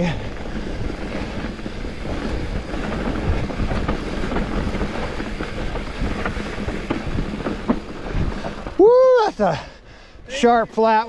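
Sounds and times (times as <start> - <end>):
bike rattling over bumps: 0.0 - 11.0
tyres rumbling on dirt: 0.0 - 11.0.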